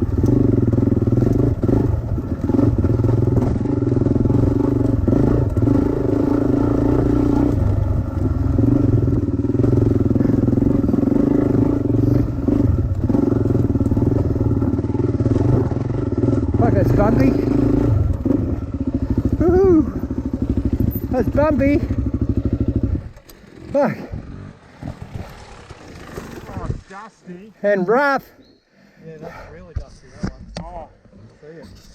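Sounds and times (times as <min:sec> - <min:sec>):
dirt bike engine running: 0:00.0 - 0:26.8
bike rattling over rough ground: 0:00.0 - 0:27.2.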